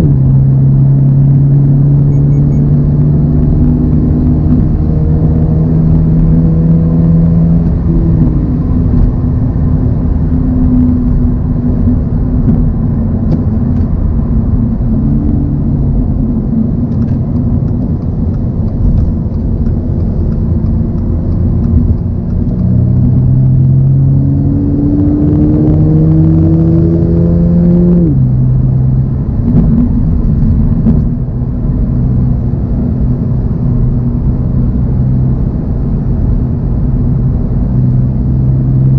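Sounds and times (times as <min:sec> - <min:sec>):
car engine pulling and shifting gear: 0:00.0 - 0:38.9
road noise: 0:00.0 - 0:38.9.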